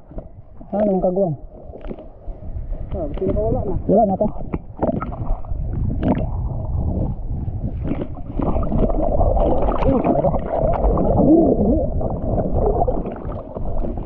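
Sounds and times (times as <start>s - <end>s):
sea water sloshing and gurgling: 0.0s - 14.0s.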